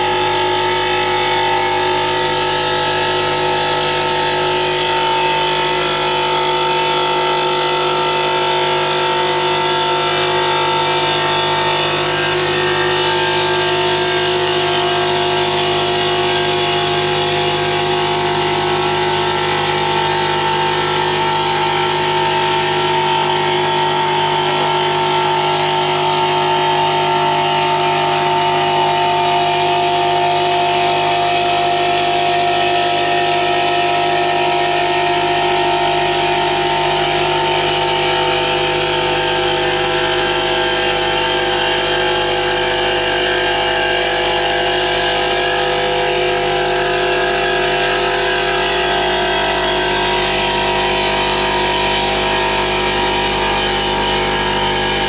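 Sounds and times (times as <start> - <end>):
stone polishing machine whine: 0.0 - 55.0.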